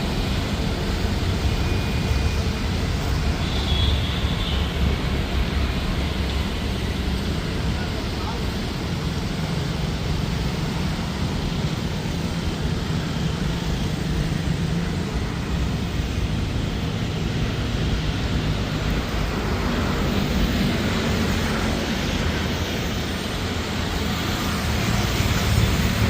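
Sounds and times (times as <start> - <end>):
jet engines at takeoff power: 0.0 - 26.0.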